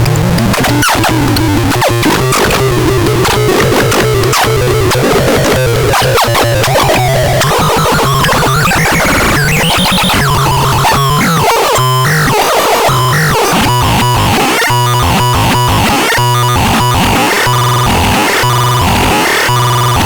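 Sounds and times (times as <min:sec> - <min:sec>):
synthesized sweeping tones: 0:00.4 - 0:17.0
rapid pulsing beeps: 0:00.6 - 0:20.0.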